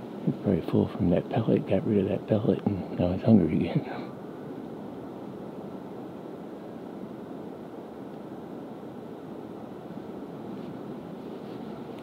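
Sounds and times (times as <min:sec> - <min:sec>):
low rushing background noise: 0:00.0 - 0:12.0.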